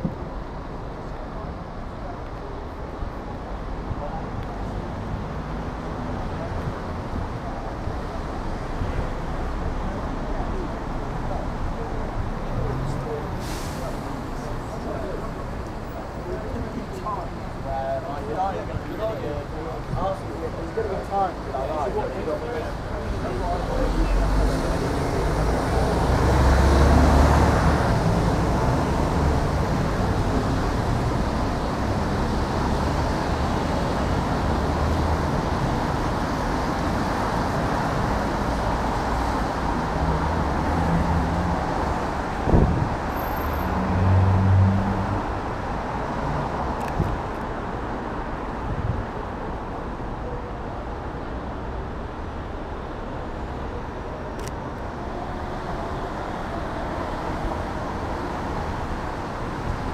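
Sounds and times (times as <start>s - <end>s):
street traffic passing: 0.0s - 59.9s.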